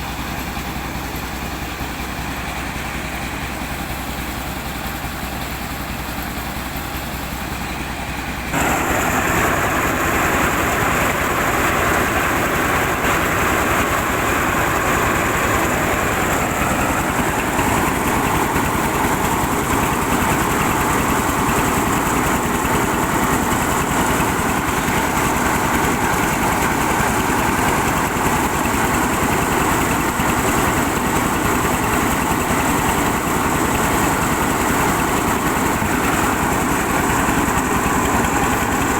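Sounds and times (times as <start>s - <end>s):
engine running a milling machine: 0.0s - 38.9s.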